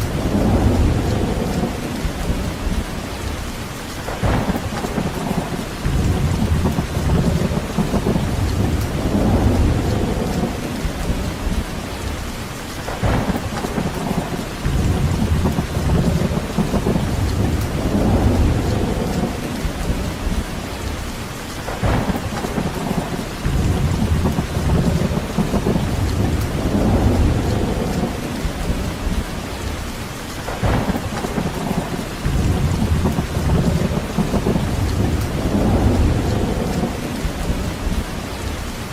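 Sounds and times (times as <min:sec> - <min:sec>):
deep rumbles: 0:00.0 - 0:21.1, 0:21.7 - 0:38.8
steady rain: 0:00.0 - 0:38.9.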